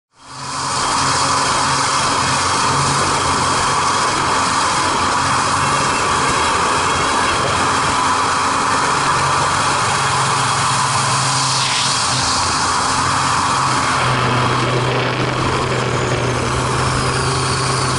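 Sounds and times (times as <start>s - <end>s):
aircraft propeller engine running: 0.1s - 17.9s
wind rush over microphone: 1.2s - 17.9s.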